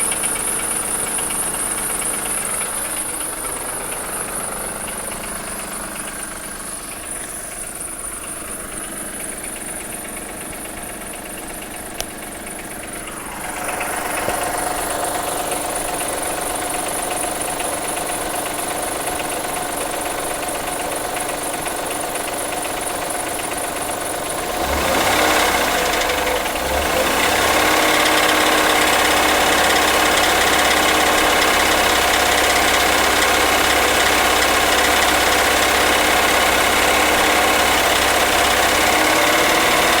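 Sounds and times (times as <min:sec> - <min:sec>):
car engine running with knock: 0:00.0 - 0:40.0.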